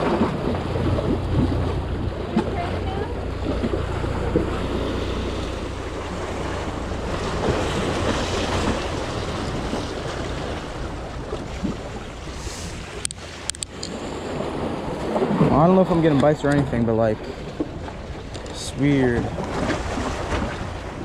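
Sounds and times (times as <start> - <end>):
small waves splashing on rocks: 0.0 - 21.0
wind rumbling on microphone: 0.0 - 21.0.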